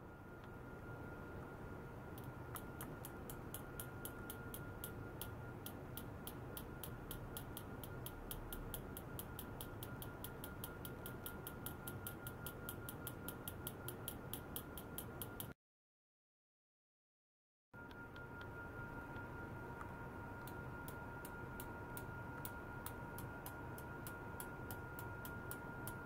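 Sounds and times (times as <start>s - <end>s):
faint high whine: 0.0s - 15.6s, 17.8s - 26.0s.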